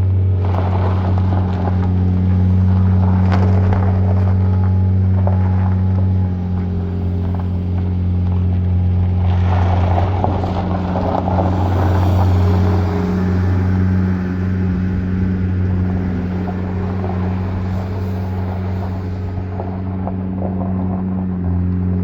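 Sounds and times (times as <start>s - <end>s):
machinery engine humming: 0.0s - 22.0s.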